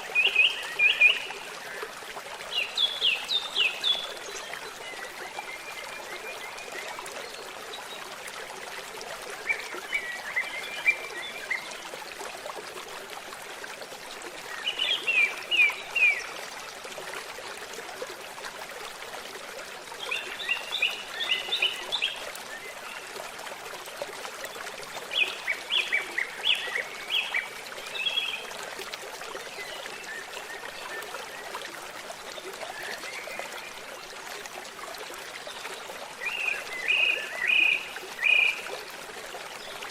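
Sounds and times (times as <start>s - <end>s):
brook trickling: 0.0s - 39.9s.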